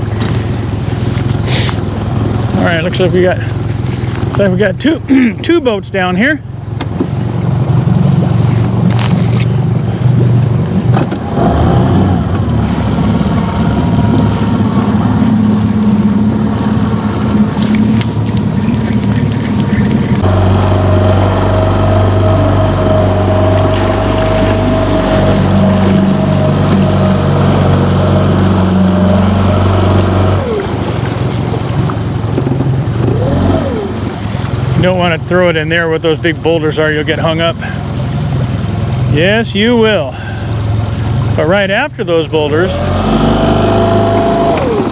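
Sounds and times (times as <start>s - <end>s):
outboard motor droning: 0.0s - 44.9s.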